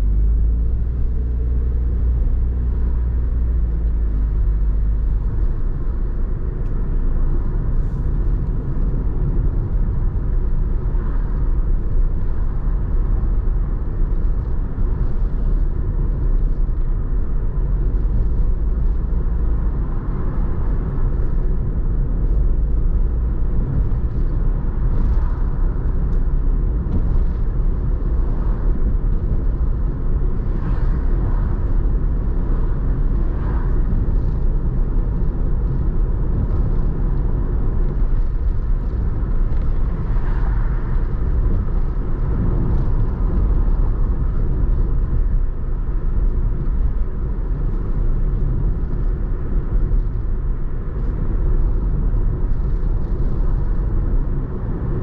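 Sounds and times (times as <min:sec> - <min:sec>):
car tyre and engine rumble: 0:00.0 - 0:55.0.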